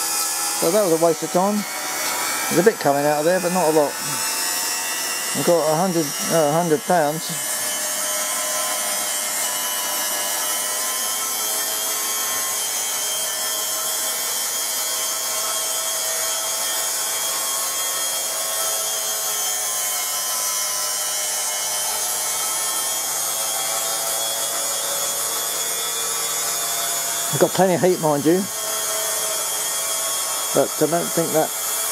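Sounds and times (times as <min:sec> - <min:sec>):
steam turbine whine: 0:00.0 - 0:31.9.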